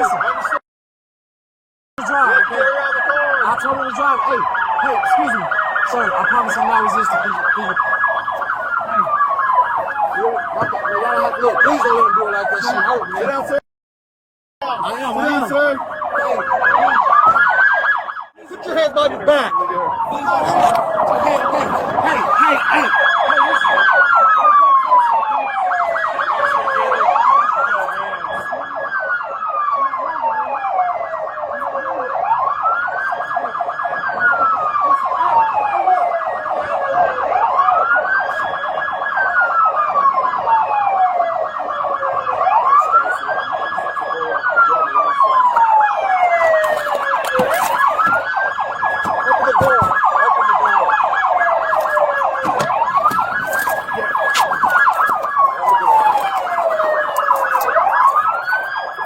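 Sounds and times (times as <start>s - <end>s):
fast-pulsing siren tone: 0.0s - 0.6s, 2.0s - 13.6s, 14.6s - 59.0s
police siren wailing: 0.0s - 0.6s, 2.0s - 13.6s, 14.6s - 59.0s.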